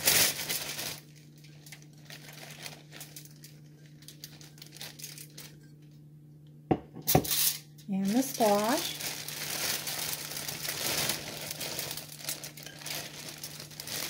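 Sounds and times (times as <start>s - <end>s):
plastic bag crinkling: 0.0s - 5.8s, 7.9s - 14.0s.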